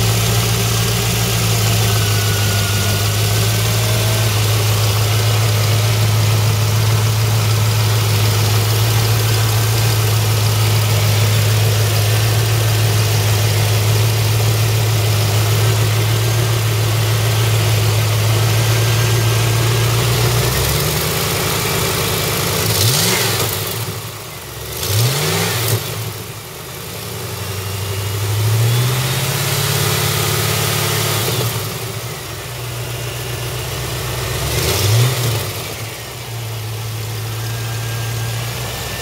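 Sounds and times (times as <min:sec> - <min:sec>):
car engine idling and revving: 0:00.0 - 0:39.0.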